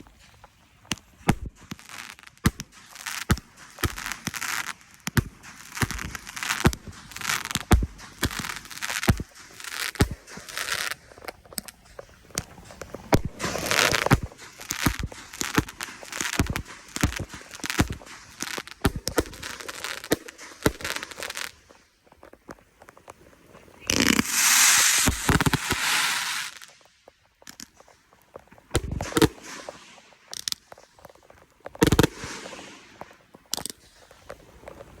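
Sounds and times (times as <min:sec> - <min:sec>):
fireworks bangs: 0:00.0 - 0:21.9, 0:23.8 - 0:27.0, 0:28.7 - 0:30.9, 0:31.7 - 0:34.3
fireworks crackling: 0:00.0 - 0:35.0.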